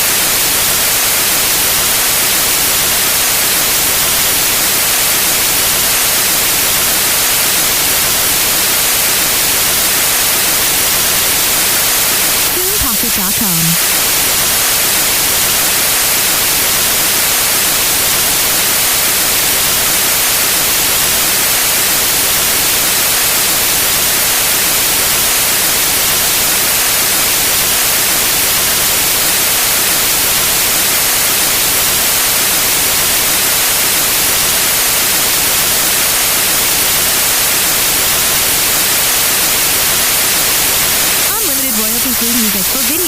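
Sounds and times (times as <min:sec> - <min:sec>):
white noise hiss: 0:00.0 - 0:43.0.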